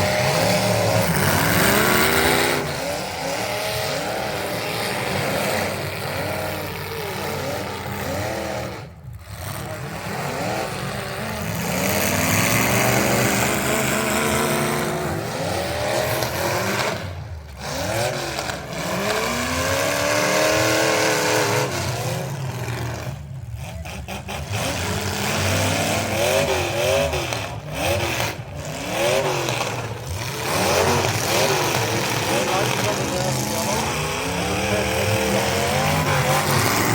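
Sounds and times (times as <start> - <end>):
racing truck engines revving: 0.0 - 36.9.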